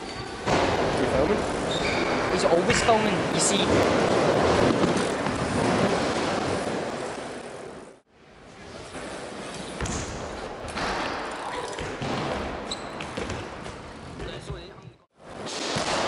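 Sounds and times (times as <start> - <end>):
bike tyres rolling on wooden ramp: 0.1 - 14.6.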